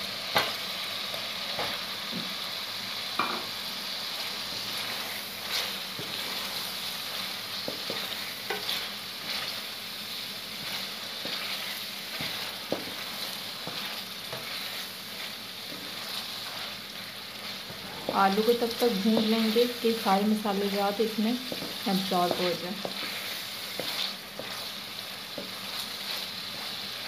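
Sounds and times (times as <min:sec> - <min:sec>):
masala sizzling in pot: 0:00.0 - 0:27.0.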